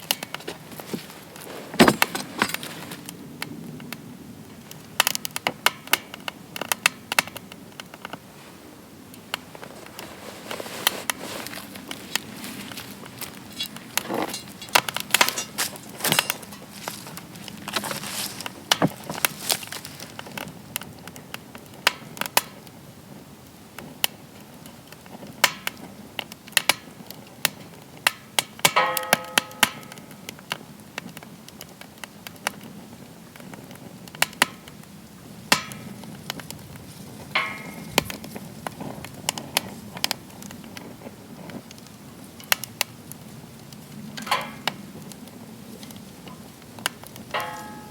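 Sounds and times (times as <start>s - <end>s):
low steady hiss: 0.0s - 47.9s
wood fire crackling and popping: 0.0s - 47.9s.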